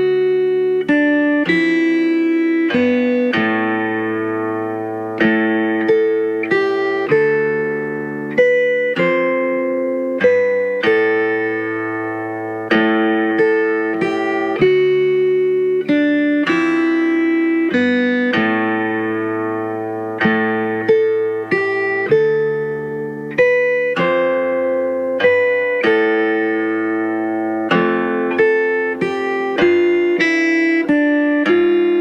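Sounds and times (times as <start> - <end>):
plucked string instrument music: 0.0 - 32.0.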